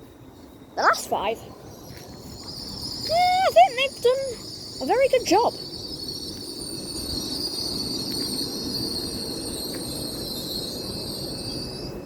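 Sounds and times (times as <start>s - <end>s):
low rumble of train: 0.0s - 12.0s
train brakes squealing: 0.0s - 12.0s.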